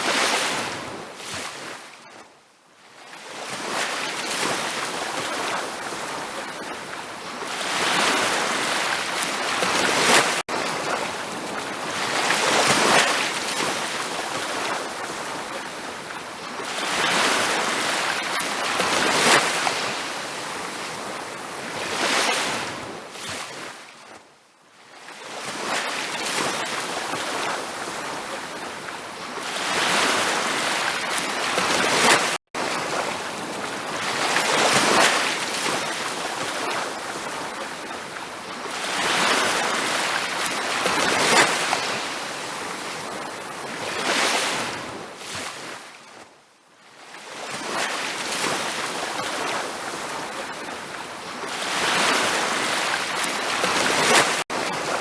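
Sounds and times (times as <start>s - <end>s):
ocean surf breaking on beach: 0.0s - 2.0s, 3.0s - 23.9s, 24.9s - 46.0s, 47.0s - 55.0s.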